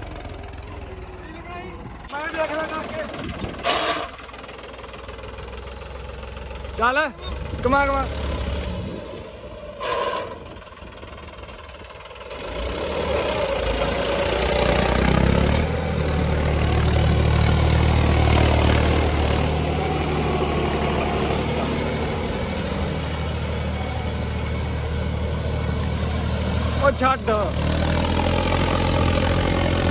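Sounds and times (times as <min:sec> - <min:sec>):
tractor diesel engine: 0:00.0 - 0:29.9.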